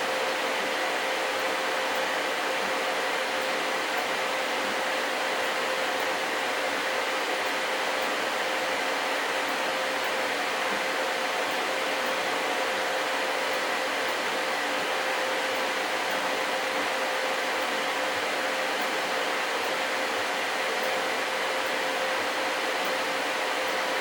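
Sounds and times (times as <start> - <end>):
printer cooling fans whirring: 0.0 - 24.0.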